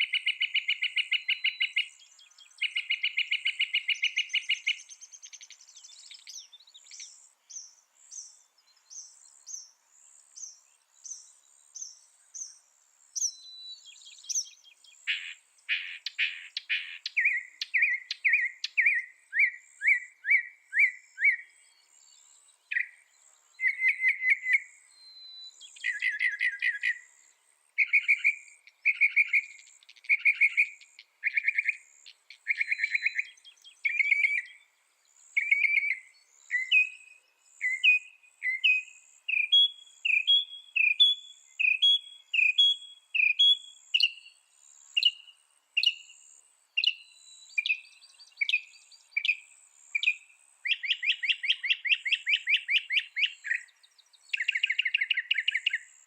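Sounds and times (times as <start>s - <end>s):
mockingbird singing: 0.0s - 9.8s, 13.2s - 21.9s, 22.7s - 27.2s, 27.8s - 34.8s, 35.4s - 44.4s, 46.8s - 56.0s.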